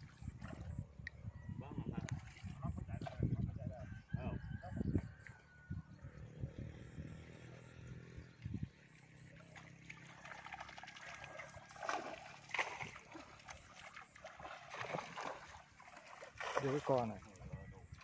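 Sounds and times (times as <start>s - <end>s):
pond water splashing and trickling: 0.0s - 3.9s, 5.0s - 18.0s.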